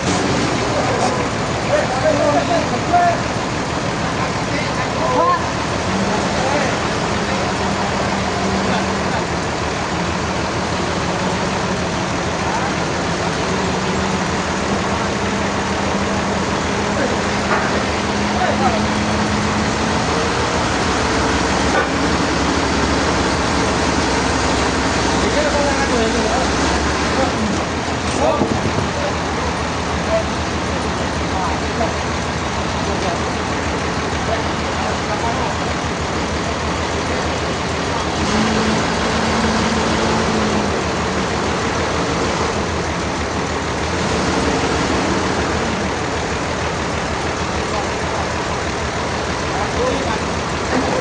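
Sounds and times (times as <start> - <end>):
sawmill machinery rumbling: 0.0 - 51.0.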